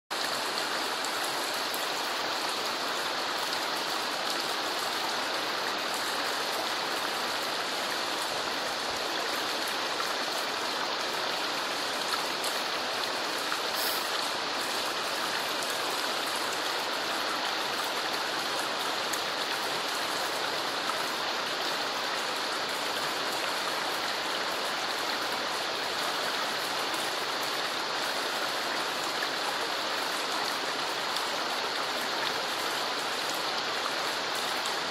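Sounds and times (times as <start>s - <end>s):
river water over rocks: 0.1s - 34.9s.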